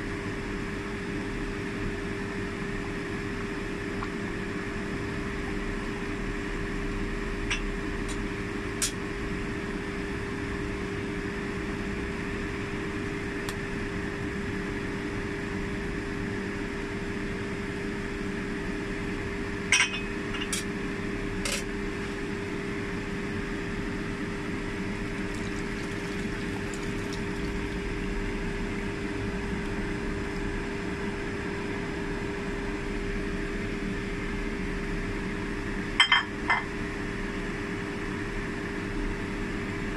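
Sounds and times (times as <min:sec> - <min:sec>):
soup boiling in pot: 0:00.0 - 0:19.7, 0:20.3 - 0:33.6
motor-like hum: 0:00.0 - 0:39.9.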